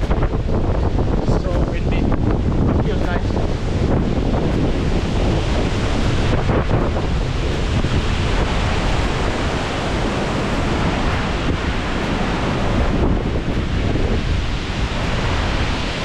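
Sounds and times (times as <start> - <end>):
gusty wind on microphone: 0.0 - 16.0.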